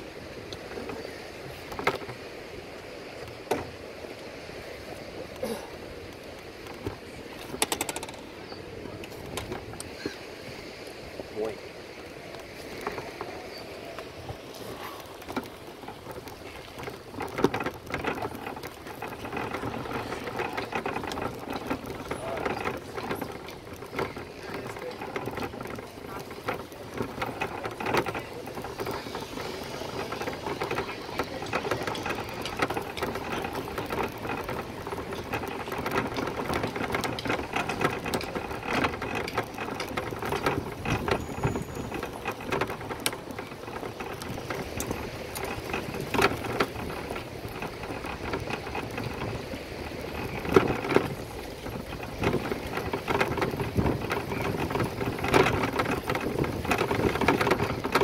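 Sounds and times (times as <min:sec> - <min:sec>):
bicycle jolts: 0:00.0 - 0:58.0
tyre road noise: 0:00.0 - 0:58.0
bicycle chain rattling and clicking: 0:04.9 - 0:58.0.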